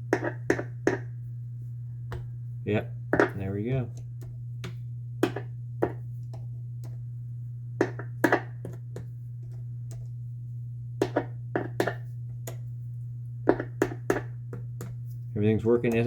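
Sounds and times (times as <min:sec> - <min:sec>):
guitar amplifier hum: 0:00.0 - 0:16.0.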